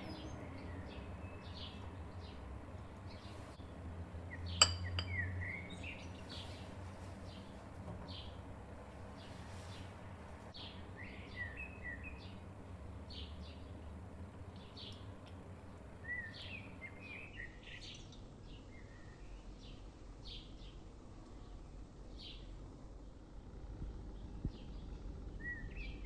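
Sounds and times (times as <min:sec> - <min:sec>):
low steady background noise: 0:00.0 - 0:26.0
small birds chirping: 0:00.0 - 0:26.0.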